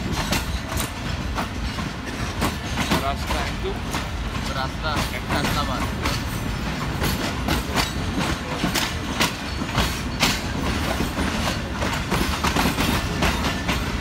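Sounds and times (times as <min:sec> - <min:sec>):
train wheels rumbling on rails: 0:00.0 - 0:14.0
wheels clicking over rail joints: 0:00.0 - 0:14.0.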